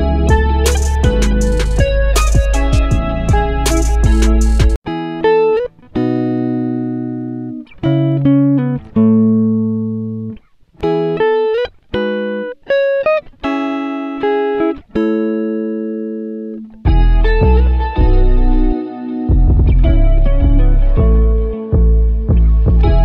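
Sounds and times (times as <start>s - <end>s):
plucked guitar music: 0.0s - 23.0s.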